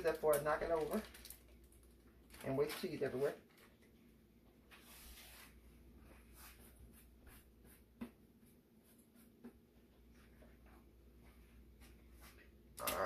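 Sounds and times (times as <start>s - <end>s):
faint rustling and shuffling: 0.6s - 12.7s.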